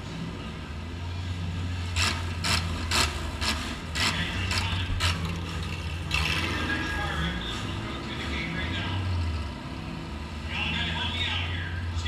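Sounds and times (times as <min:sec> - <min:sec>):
car engine running low: 0:00.0 - 0:11.3.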